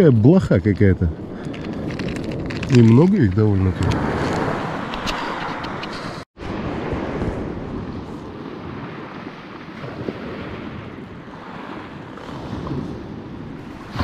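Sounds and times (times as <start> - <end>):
wind buffeting microphone: 0.0 - 14.0
surf washing on beach: 1.2 - 14.0.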